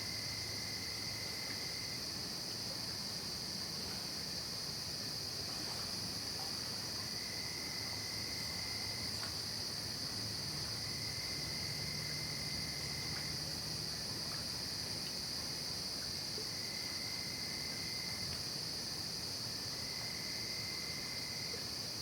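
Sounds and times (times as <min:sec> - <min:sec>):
crickets drone: 0:00.0 - 0:22.0
lower insect trill: 0:00.0 - 0:22.0.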